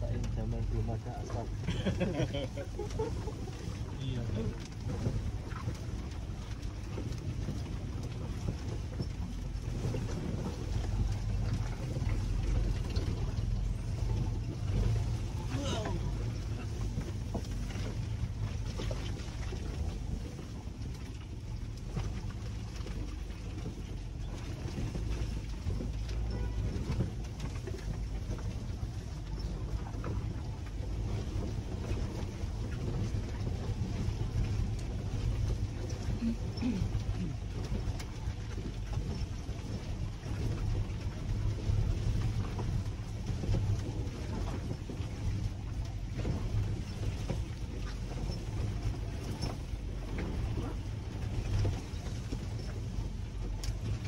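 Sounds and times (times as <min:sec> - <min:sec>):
low engine rumble: 0:00.0 - 0:54.0
vehicle knocks and rattles: 0:00.0 - 0:54.0.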